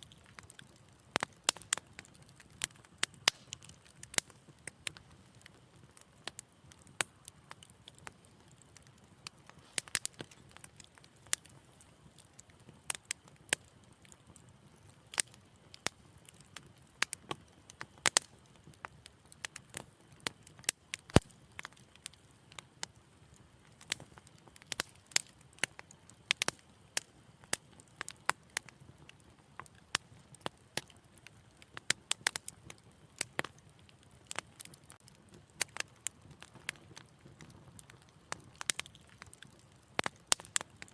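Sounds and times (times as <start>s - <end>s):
fire pops and snaps: 0.0s - 40.9s
wood fire crackling: 0.0s - 40.9s.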